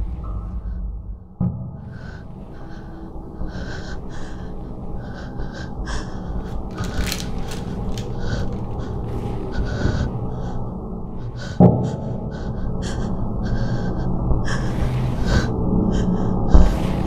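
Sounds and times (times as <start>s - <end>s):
low steady drone: 0.0s - 17.0s
person panting: 1.8s - 17.0s.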